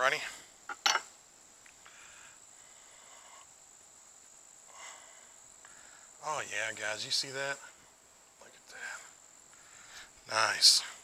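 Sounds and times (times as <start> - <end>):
insect trill: 0.0 - 11.0.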